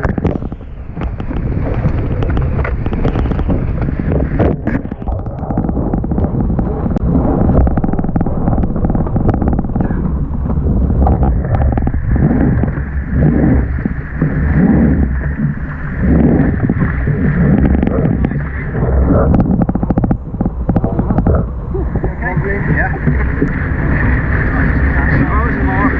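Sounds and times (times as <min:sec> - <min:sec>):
water rushing and slapping hulls: 0:00.0 - 0:25.9
wind buffeting microphone: 0:00.0 - 0:25.9.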